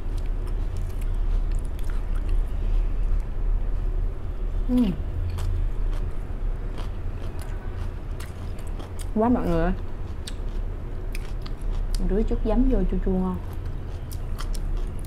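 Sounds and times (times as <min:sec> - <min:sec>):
chewing crisp lettuce: 0:00.0 - 0:04.0, 0:04.6 - 0:12.1, 0:13.3 - 0:15.0
steady low hum: 0:00.0 - 0:15.0.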